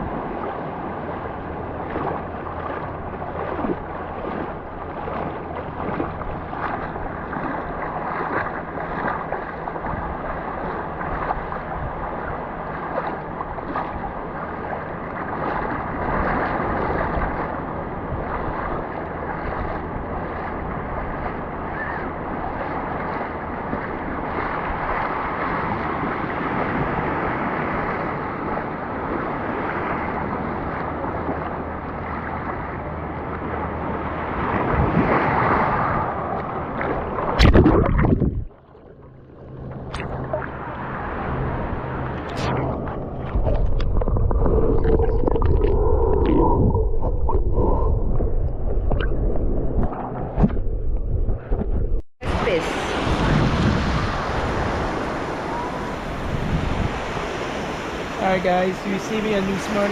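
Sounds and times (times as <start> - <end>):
wind on microphone: 0.0 - 38.6, 39.4 - 59.9
ocean surf washing: 0.0 - 50.6, 51.2 - 59.9.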